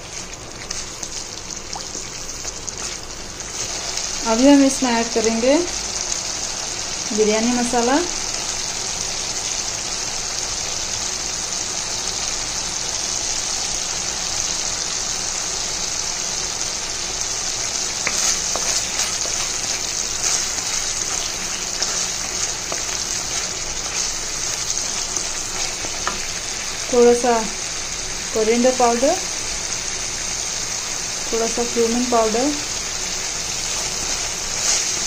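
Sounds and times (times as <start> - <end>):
frying sizzle: 0.0 - 35.0.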